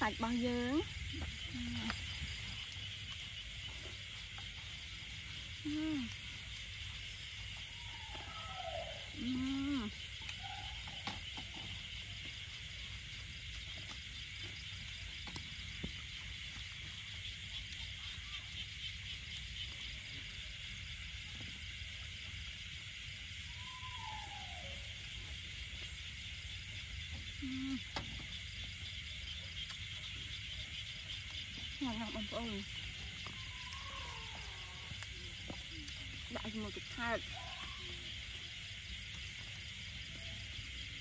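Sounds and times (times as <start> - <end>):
night insects chirring: 0.0 - 41.0.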